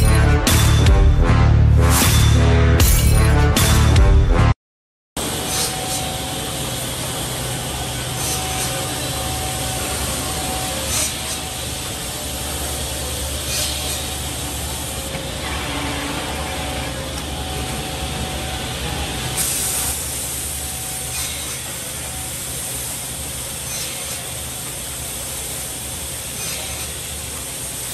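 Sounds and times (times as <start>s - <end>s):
workshop machinery noise: 0.0s - 4.0s, 5.2s - 27.9s.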